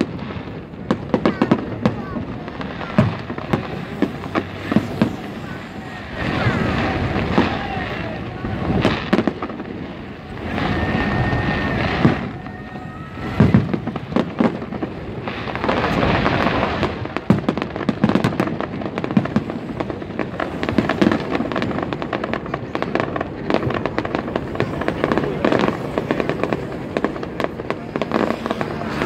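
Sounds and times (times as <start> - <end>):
dense rapid crackling: 0.0 - 29.0
firework shells booming: 0.0 - 29.0
fireworks hissing: 0.0 - 29.0.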